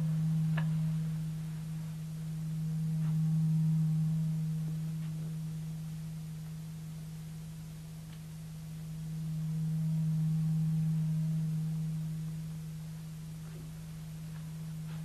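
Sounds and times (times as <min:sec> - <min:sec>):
low electronic hum: 0:00.0 - 0:15.0.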